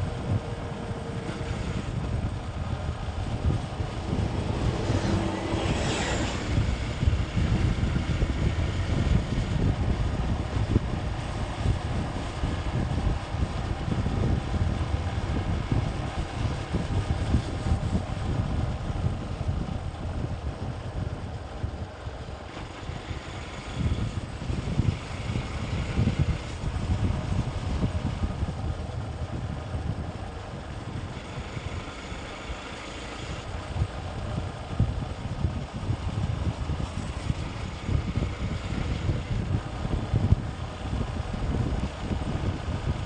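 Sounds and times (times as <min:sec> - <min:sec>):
motorcycle engine and road noise: 0:00.0 - 0:43.0
wind buffeting microphone: 0:00.0 - 0:43.0.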